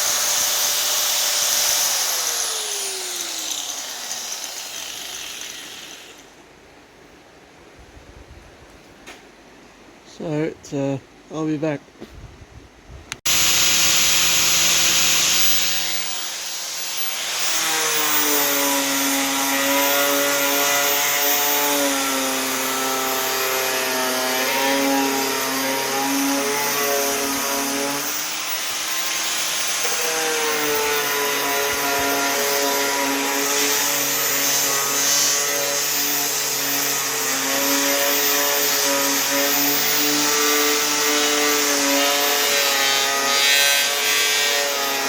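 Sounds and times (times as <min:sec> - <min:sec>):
electric grinder on metal: 0:00.0 - 0:06.3, 0:13.3 - 0:45.0.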